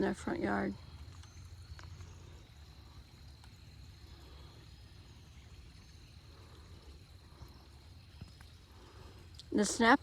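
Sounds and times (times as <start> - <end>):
faint trickling water: 0.0 - 10.0.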